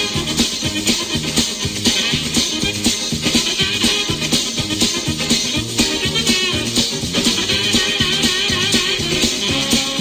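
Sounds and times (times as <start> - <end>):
upbeat music with bass: 0.0 - 10.0.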